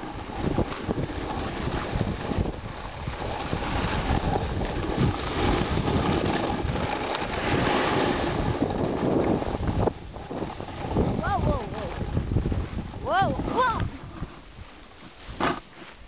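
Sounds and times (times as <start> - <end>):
wind buffeting microphone: 0.0 - 15.6
snowboard sliding on snow: 0.0 - 16.0.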